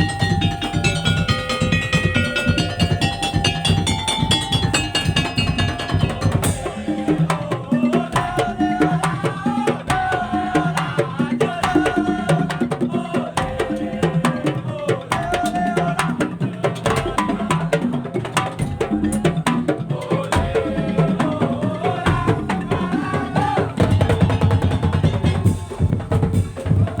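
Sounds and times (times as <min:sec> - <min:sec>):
wooden slit drums and drums: 0:00.0 - 0:27.0.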